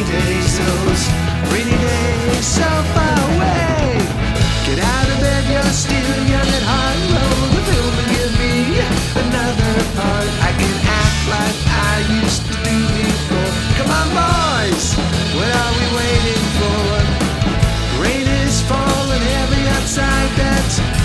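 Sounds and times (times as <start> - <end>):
bass guitar: 0.0 - 21.0
distorted electric guitar: 0.0 - 21.0
drum kit with cymbals: 0.0 - 21.0.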